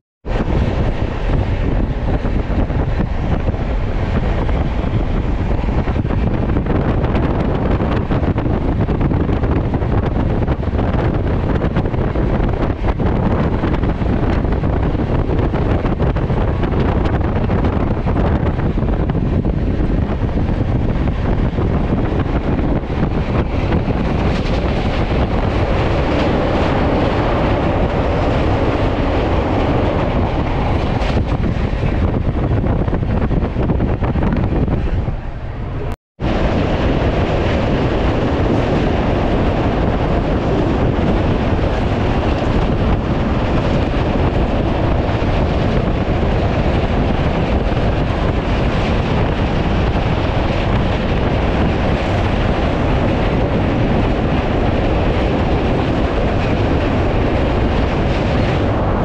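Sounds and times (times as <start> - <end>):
train rail rumble: 0.2 - 59.0
wind buffeting microphone: 0.2 - 59.0
rail clicks: 0.3 - 59.0.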